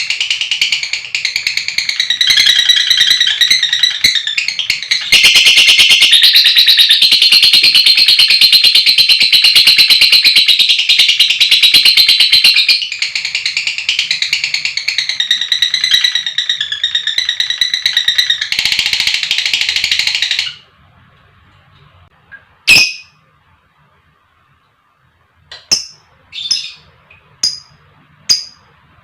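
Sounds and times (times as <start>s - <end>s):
lovebird chattering trill: 0.0s - 20.6s, 22.7s - 23.2s, 25.6s - 28.7s.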